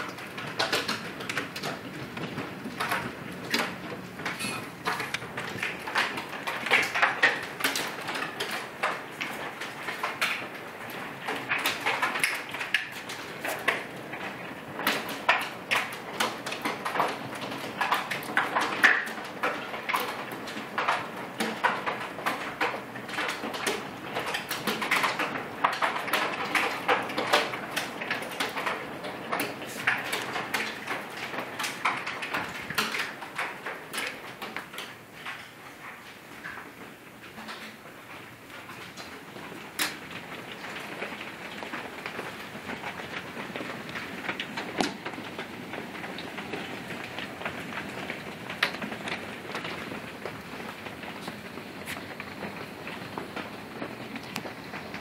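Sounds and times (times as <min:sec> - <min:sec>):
hailstones pelting a house: 0:00.0 - 0:55.0.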